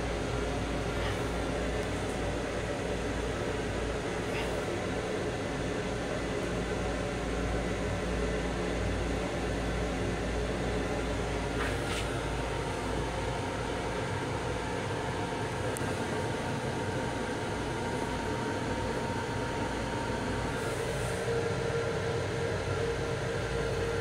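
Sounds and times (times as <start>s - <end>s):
train car ventilation hum: 0.0s - 24.0s
train low rumble: 0.0s - 24.0s.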